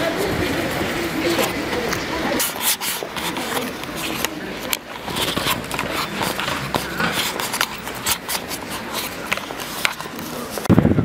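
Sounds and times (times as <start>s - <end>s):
street noise rushing hiss: 0.0s - 11.0s.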